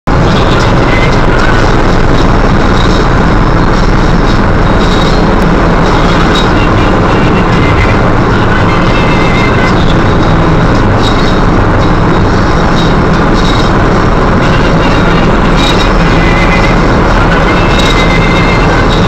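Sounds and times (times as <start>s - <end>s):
car interior road drone: 0.0s - 19.0s.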